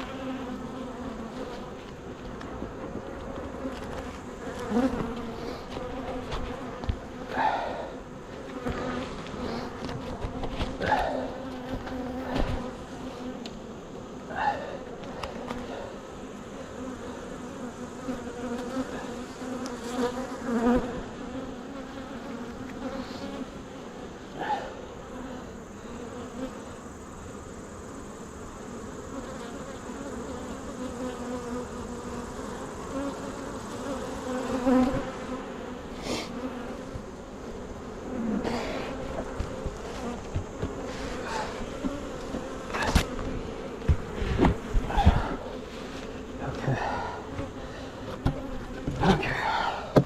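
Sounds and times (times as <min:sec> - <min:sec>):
bee flying close by: 0:00.0 - 0:50.0
honeybees buzzing: 0:00.0 - 0:50.0.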